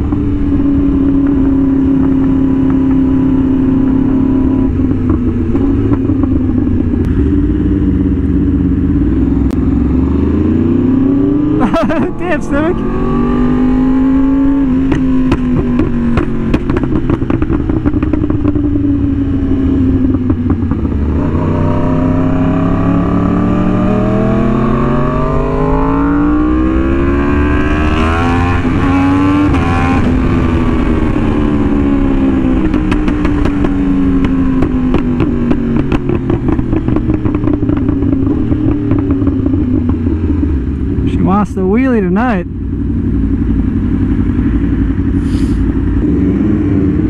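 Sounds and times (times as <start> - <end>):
motorcycle engine revving: 0.0 - 47.0
second engine passing: 0.0 - 47.0.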